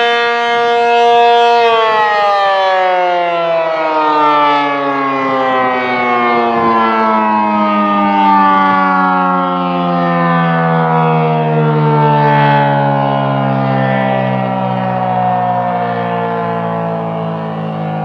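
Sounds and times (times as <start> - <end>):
dual-tone siren: 0.0 - 18.0.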